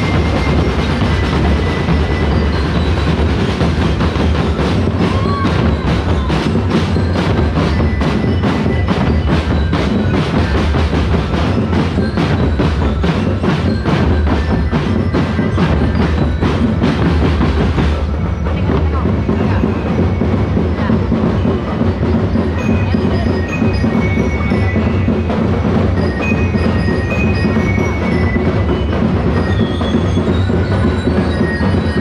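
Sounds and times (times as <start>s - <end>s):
drum band playing driving beat: 0.0s - 32.0s.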